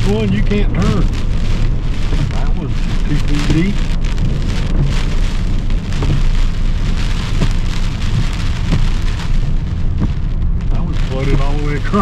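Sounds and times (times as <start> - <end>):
car rumbling on wet road: 0.0 - 12.0
heavy rain beating on a car: 0.0 - 12.0.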